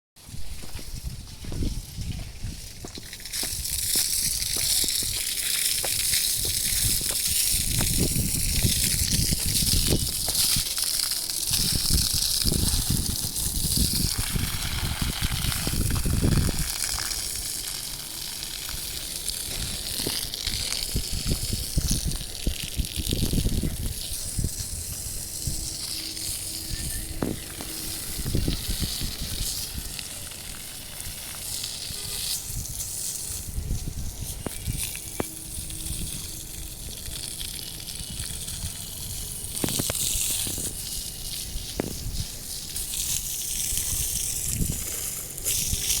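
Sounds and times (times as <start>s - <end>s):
hose spraying water on concrete: 0.2s - 46.0s.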